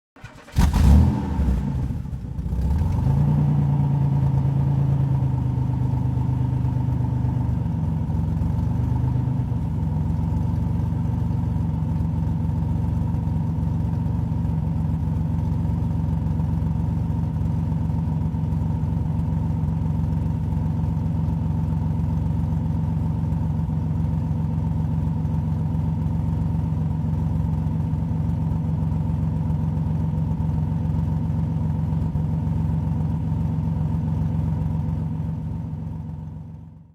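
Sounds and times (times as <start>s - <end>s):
car engine starting and idling: 0.2s - 36.5s.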